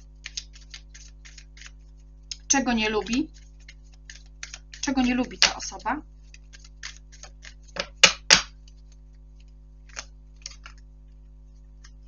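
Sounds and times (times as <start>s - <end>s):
cards being shuffled by hand: 0.0s - 12.0s.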